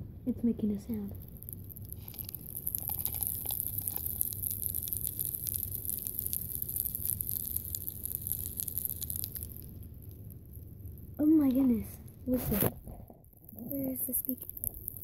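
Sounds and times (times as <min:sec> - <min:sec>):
popping candy crackling: 0:00.6 - 0:15.0.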